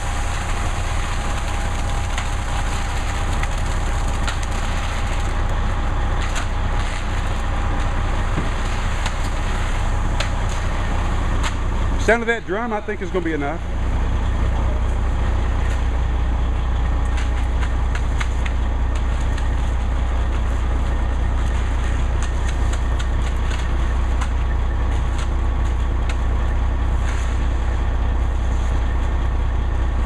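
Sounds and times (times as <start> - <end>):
concrete mixer truck drone: 0.0 - 30.0.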